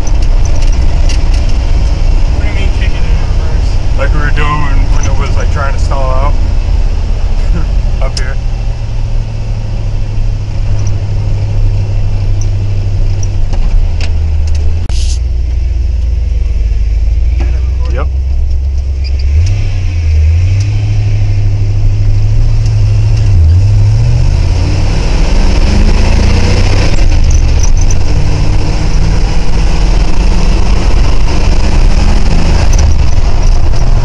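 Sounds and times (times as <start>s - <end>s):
pickup truck engine running: 0.0s - 24.8s, 25.8s - 34.0s.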